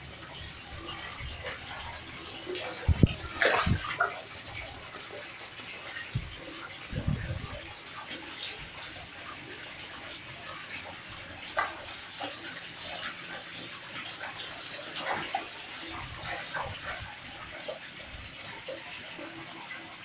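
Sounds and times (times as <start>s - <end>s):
fish splashing in bucket of water: 0.1s - 20.0s.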